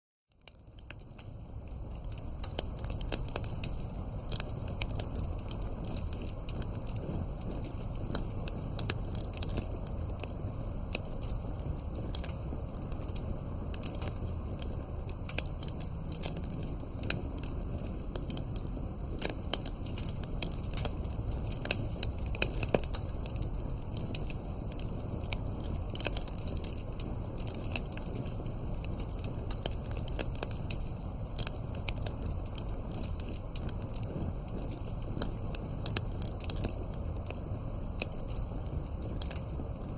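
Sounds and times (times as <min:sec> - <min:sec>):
low rumble of flames: 0:00.3 - 0:39.9
wood crackling and popping: 0:00.3 - 0:39.9.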